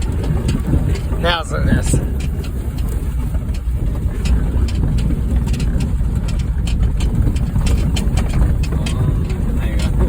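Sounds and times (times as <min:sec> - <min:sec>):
car engine and tyres rumbling: 0:00.0 - 0:10.0
short rattles and knocks: 0:00.0 - 0:10.0.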